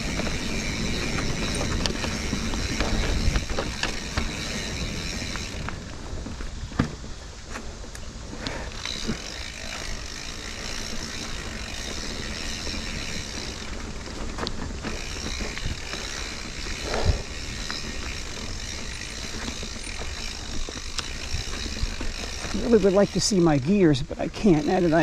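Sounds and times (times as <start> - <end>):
bike tyre and frame rattle: 0.0 - 25.0.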